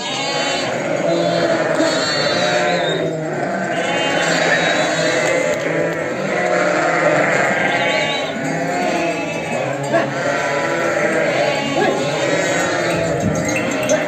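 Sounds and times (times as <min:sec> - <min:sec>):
sheep and lambs bleating: 0:00.0 - 0:14.0.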